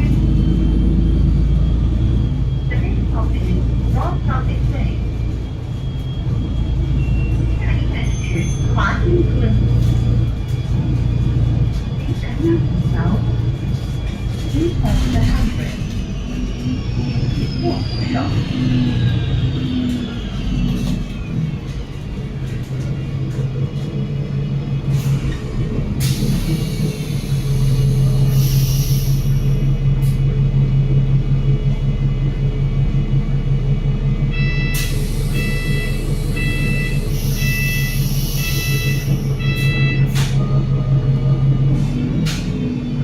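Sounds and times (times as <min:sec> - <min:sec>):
bus diesel engine drone: 0:00.0 - 0:43.0.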